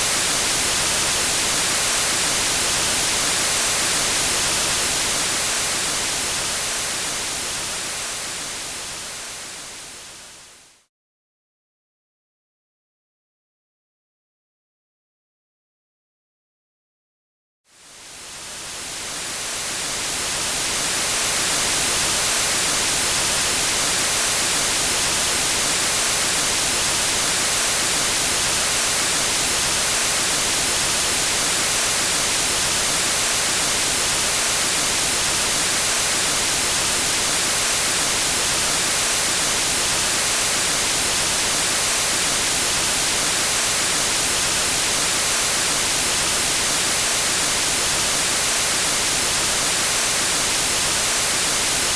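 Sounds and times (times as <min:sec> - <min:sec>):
white noise hiss: 0:00.0 - 0:10.8, 0:17.8 - 0:51.9.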